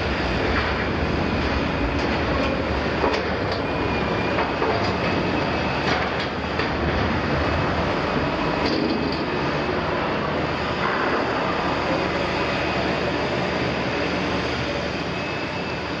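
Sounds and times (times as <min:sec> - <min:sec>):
excavator engine and hydraulics drone: 0:00.0 - 0:16.0.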